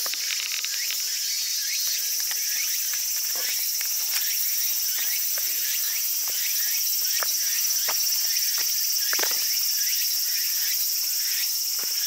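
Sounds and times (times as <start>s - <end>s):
insects chirping: 0.0s - 12.0s
insects droning: 0.0s - 12.0s.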